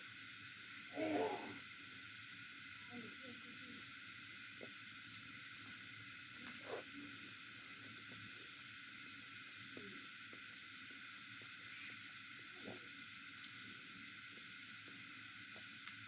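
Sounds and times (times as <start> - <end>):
background hiss: 0.0 - 16.0
crickets chirping: 0.0 - 16.0.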